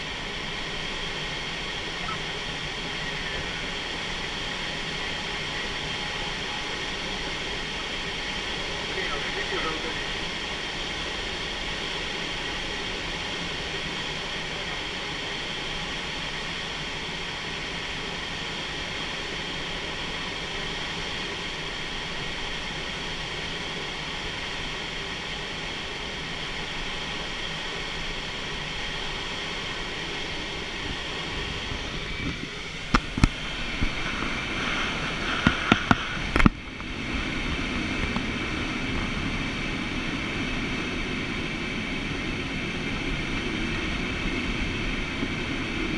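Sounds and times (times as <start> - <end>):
airflow rushing in cockpit: 0.0 - 45.9.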